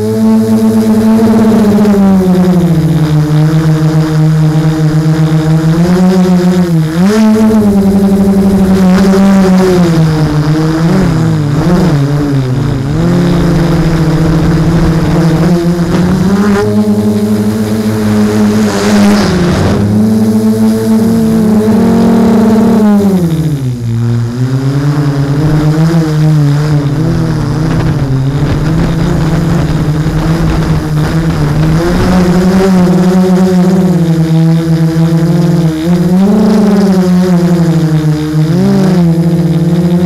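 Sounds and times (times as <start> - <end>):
drone motors buzzing hum: 0.0 - 40.0.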